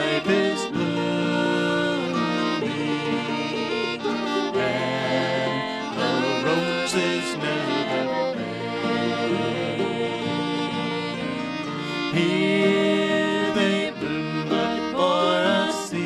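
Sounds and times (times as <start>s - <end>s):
acoustic bluegrass band playing: 0.0s - 16.0s.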